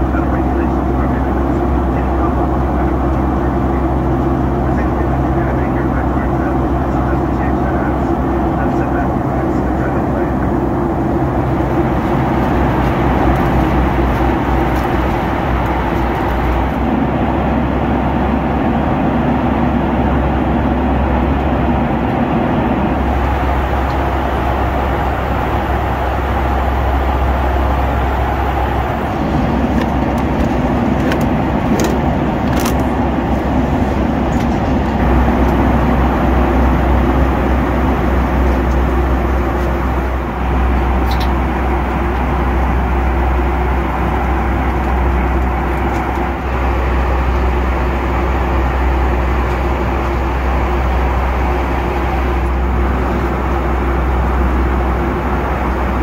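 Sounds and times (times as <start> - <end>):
low engine drone: 0.0 - 56.0
rush of airflow: 10.3 - 56.0.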